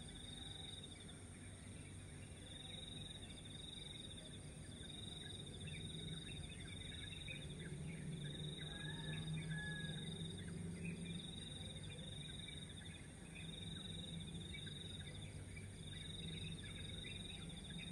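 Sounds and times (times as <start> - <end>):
insects trilling: 0.0 - 17.9
low steady hum: 0.0 - 17.9.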